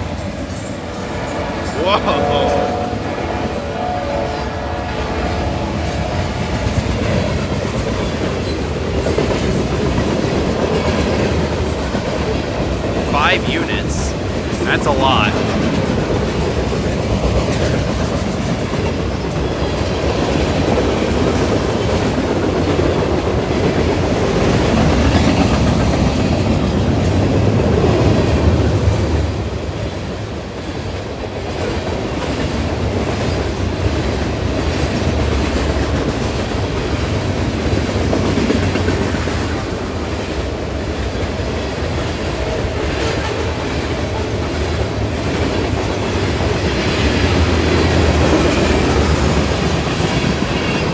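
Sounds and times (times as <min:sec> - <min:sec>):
train wheels clattering over rails: 0:05.8 - 0:13.0, 0:15.4 - 0:50.9.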